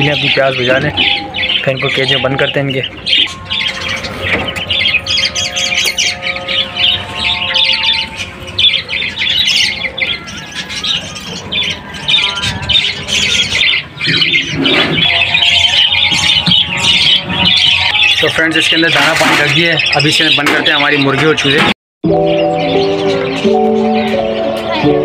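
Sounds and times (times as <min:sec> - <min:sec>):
ducklings peeping: 0:00.0 - 0:25.0.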